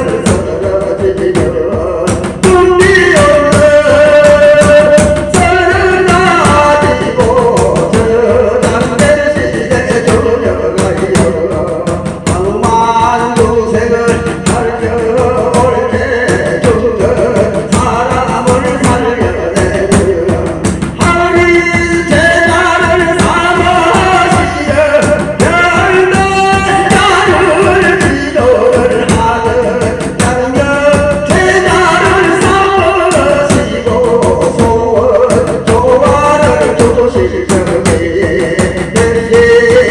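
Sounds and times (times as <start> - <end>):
melodic sung chant: 0.0 - 39.9
quick steady drumbeat: 0.0 - 39.9.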